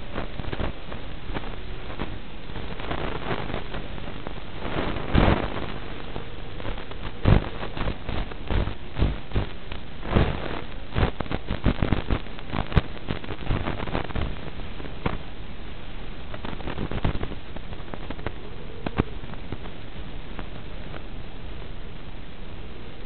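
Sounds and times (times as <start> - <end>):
crackles and pops: 0.0 - 23.0
static hiss: 0.0 - 23.0.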